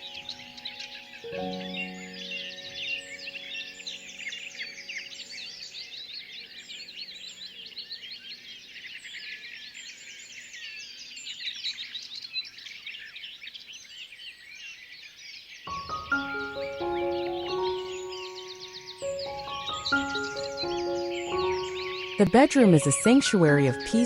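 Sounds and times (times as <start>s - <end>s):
soft sustained music tones: 0.0s - 12.8s, 15.7s - 24.0s
small birds chirping: 0.0s - 24.0s.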